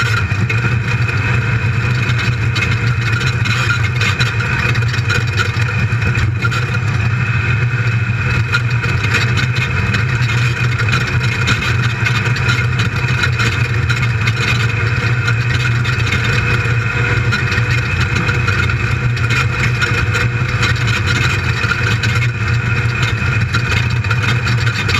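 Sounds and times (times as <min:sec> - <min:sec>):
engine running at speed: 0:00.0 - 0:24.9.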